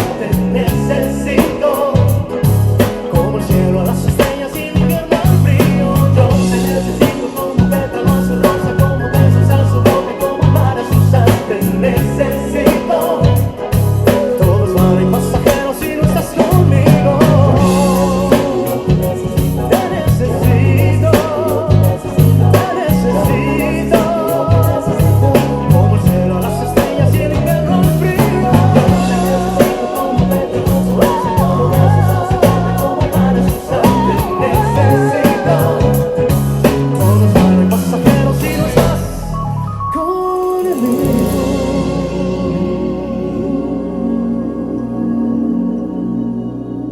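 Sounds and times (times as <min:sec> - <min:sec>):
drums: 0:00.0 - 0:45.3
bass guitar line: 0:00.0 - 0:46.9
person singing: 0:00.0 - 0:46.9.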